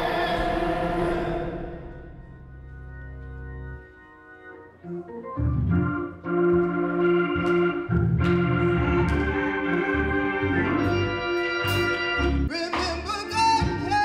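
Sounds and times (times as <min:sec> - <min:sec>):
organ chords: 0:00.0 - 0:14.0.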